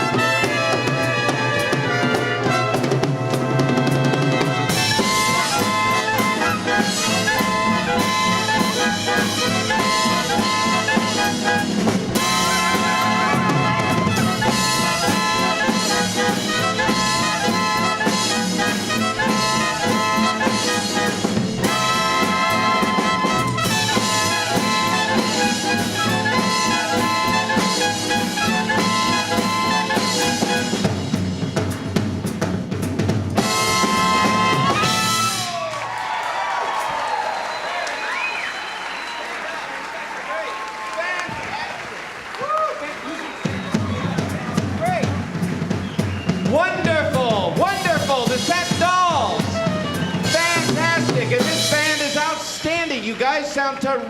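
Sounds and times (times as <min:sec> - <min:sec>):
swing band playing live: 0:00.0 - 0:54.0.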